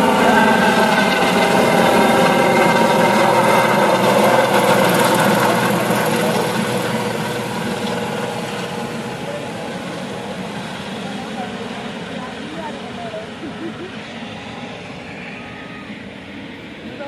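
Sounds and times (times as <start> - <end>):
helicopter flying overhead: 0.0 - 17.0.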